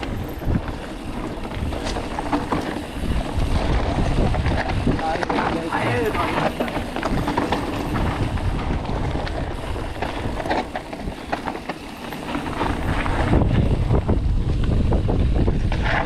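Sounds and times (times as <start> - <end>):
bike rattling and knocking: 0.0 - 16.0
bike tyres rolling on dirt: 0.0 - 16.0
wind rushing over microphone: 0.0 - 16.0.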